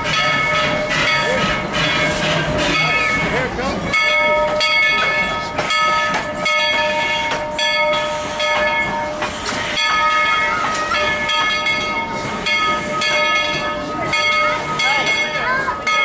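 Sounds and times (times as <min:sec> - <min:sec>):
steam train running: 0:00.0 - 0:16.0.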